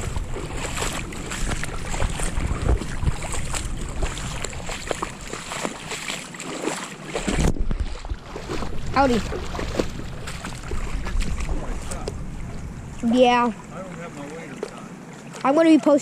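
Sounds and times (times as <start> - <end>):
wind rumbling on microphone: 0.0 - 6.0, 7.1 - 14.1
creek rushing: 0.0 - 16.0.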